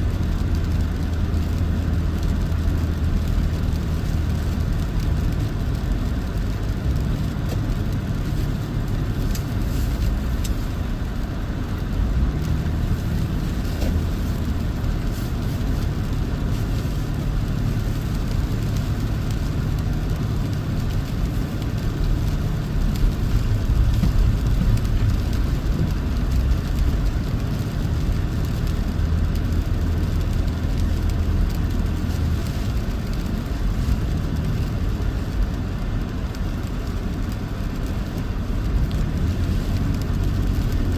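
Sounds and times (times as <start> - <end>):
car engine hum: 0.0 - 40.9
tyre and road noise: 0.0 - 40.9.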